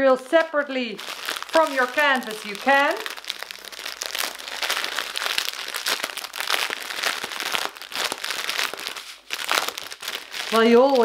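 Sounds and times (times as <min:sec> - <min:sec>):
plastic bags crinkling: 0:00.4 - 0:11.0.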